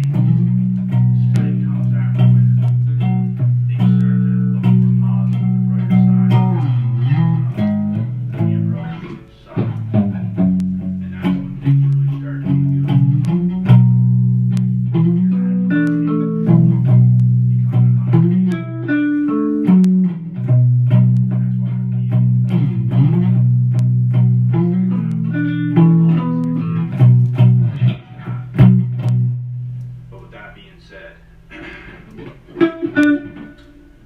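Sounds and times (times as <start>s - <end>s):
blues guitar riff: 0.0s - 34.0s.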